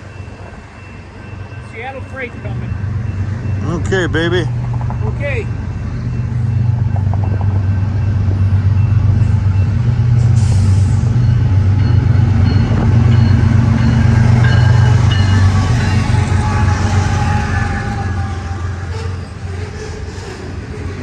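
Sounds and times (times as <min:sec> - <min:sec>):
diesel locomotive drone: 0:00.0 - 0:21.0
train rolling: 0:00.0 - 0:21.0.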